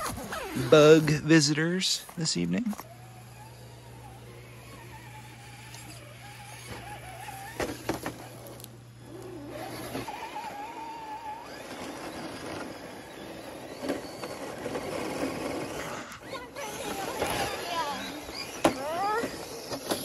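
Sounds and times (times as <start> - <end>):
toy truck motor whining: 0.0 - 20.0.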